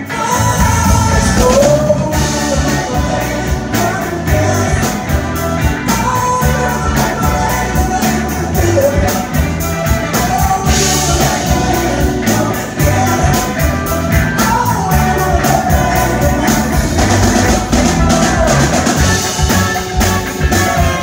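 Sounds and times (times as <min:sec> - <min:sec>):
electric guitar: 0:00.0 - 0:21.0
person singing: 0:00.0 - 0:21.0
steady drum beat: 0:00.0 - 0:21.0.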